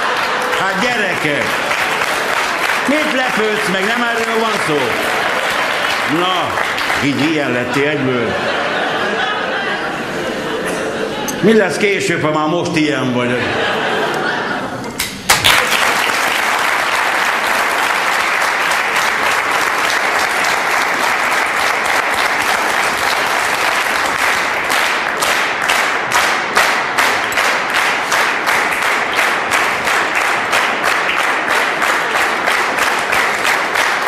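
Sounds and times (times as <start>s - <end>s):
rhythmic clapping: 0.0s - 8.9s, 15.0s - 34.0s
audience applauding: 0.0s - 10.2s, 15.2s - 34.0s.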